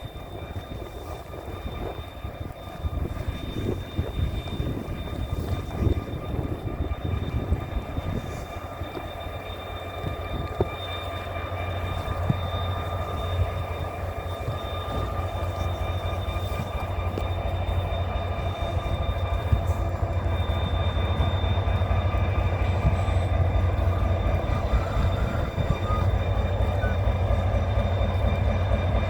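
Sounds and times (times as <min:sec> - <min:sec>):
locomotive engine whine and rumble: 0:00.0 - 0:29.0.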